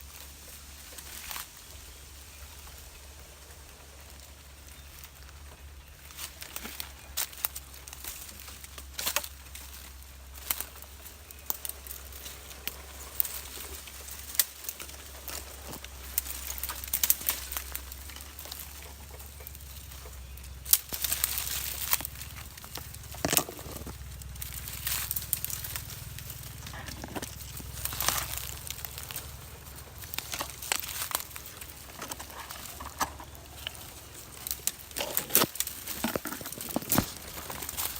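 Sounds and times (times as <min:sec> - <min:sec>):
low steady hum: 0:00.0 - 0:37.9
rustling and crackling clicks: 0:00.1 - 0:37.9.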